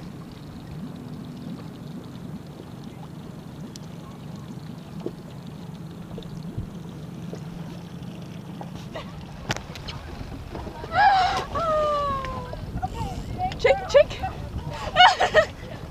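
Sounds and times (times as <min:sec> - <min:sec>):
water lapping against boat hull: 0:00.0 - 0:15.9.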